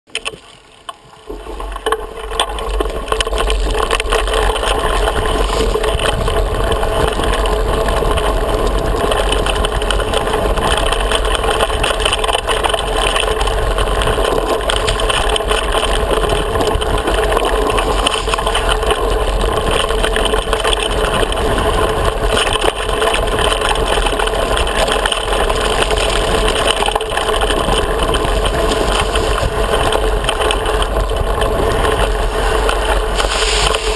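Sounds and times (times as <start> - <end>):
handlebars rattling: 0.1 - 33.9
tyres on dirt: 0.1 - 33.9
wind on camera housing: 1.3 - 33.9.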